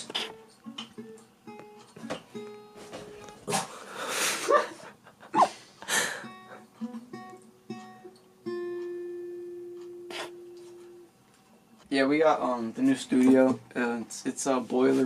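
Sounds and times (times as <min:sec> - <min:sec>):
acoustic guitar: 0:00.0 - 0:13.8.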